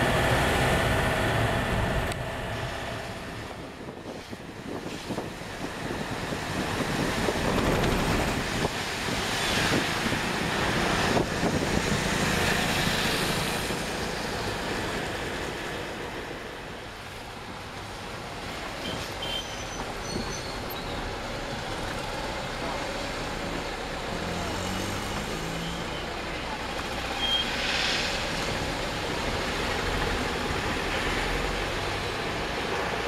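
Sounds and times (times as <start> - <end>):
tyres hissing on wet road: 0.0 - 33.0.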